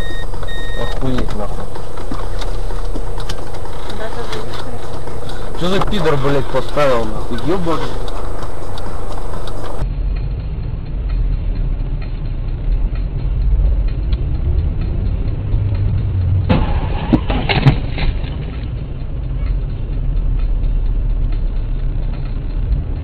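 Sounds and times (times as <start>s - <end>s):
car engine rumble: 0.0s - 23.0s
road noise: 0.0s - 23.0s.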